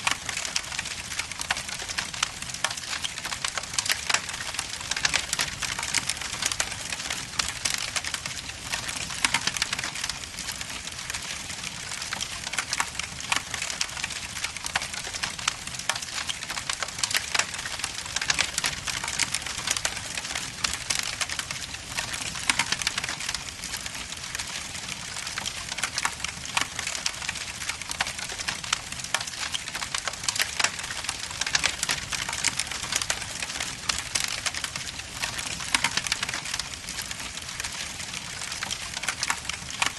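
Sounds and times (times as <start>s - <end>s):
logs burning and crackling: 0.0s - 39.9s.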